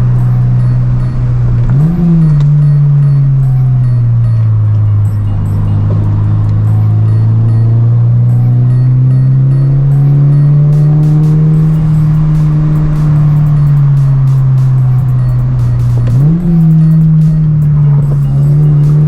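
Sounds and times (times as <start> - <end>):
car engine under load: 0.0 - 19.0.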